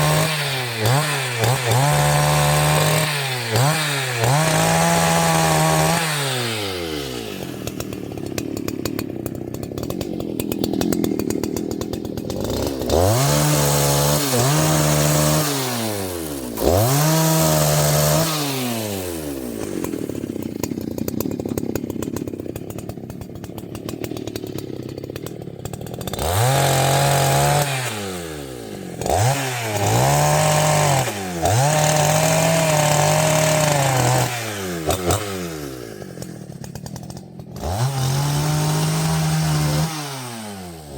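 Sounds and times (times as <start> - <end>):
chainsaw engine idling and revving: 0.0 - 40.9.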